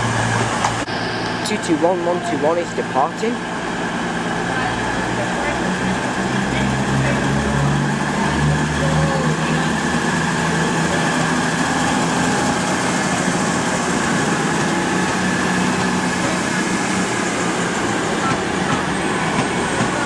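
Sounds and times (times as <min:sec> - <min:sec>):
diesel train engine drone: 0:00.0 - 0:20.0.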